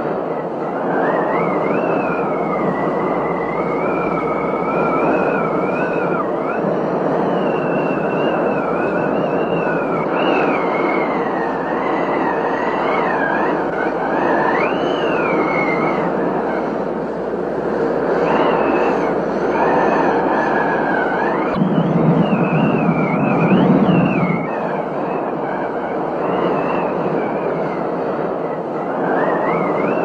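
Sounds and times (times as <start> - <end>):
thin wavering high tone: 1.0 - 30.0.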